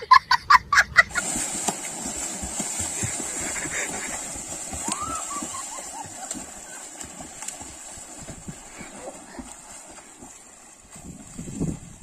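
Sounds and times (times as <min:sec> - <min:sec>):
water splashing: 0:01.0 - 0:12.0.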